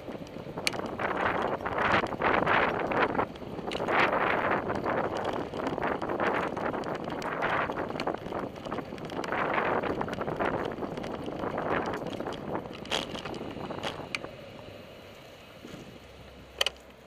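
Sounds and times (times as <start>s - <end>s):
wind buffeting microphone: 0.0s - 14.7s
sharp clicks or rattles: 0.1s - 14.3s.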